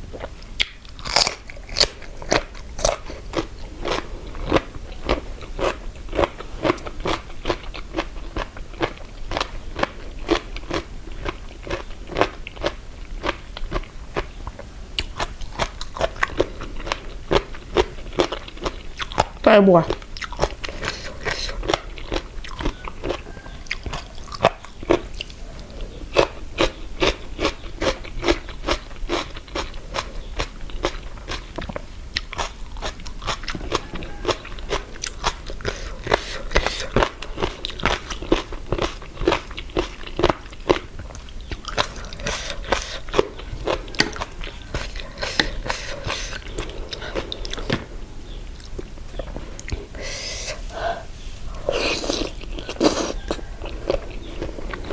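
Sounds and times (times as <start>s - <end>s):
crunching and chewing food: 0.0s - 54.9s.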